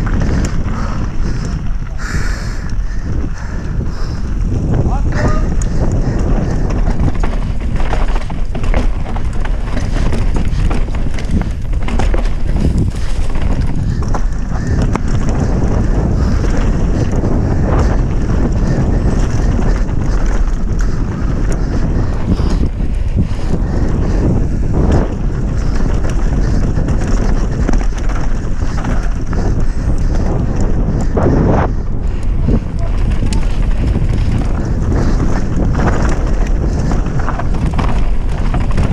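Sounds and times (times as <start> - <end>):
bike rattling and knocking: 0.0 - 38.9
bike tyres rumbling over dirt: 0.0 - 38.9
wind buffeting microphone: 0.0 - 38.9.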